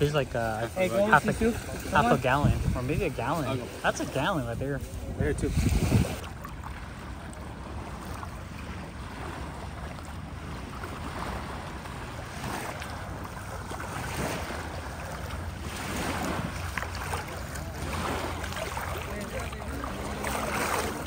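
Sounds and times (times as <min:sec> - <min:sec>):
waves washing on shore: 0:00.0 - 0:21.0
wind rumble on microphone: 0:00.0 - 0:21.0.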